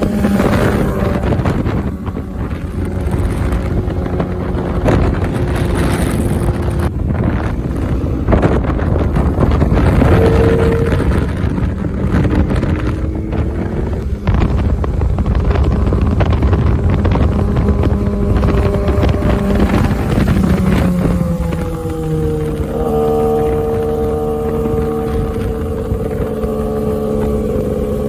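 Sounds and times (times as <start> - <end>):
motorcycle engine running: 0.0 - 28.0
wind rumble on microphone: 0.0 - 28.0.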